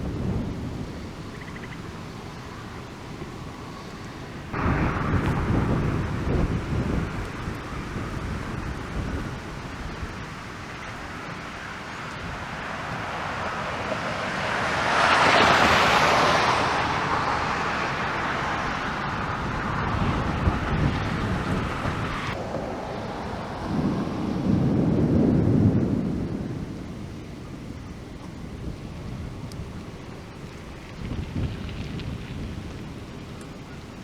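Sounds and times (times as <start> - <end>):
wind buffeting microphone: 0.0 - 34.0
wind hiss: 0.0 - 34.0.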